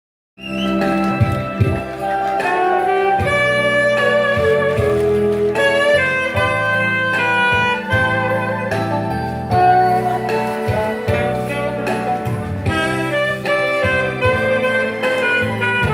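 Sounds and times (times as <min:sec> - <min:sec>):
bass line: 0:00.4 - 0:15.9
held melody with vibrato: 0:00.4 - 0:15.9
steady beat: 0:00.6 - 0:15.9.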